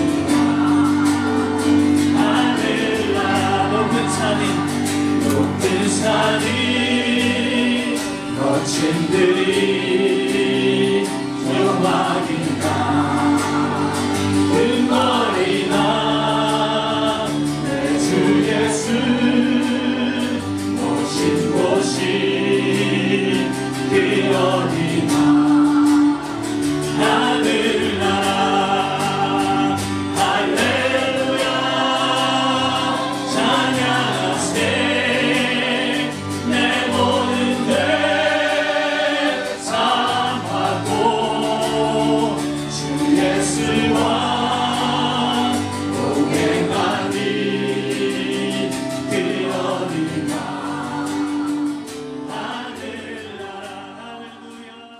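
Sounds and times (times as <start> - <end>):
sustained instrumental accompaniment: 0.0 - 54.9
vocal group singing in harmony: 0.0 - 54.9.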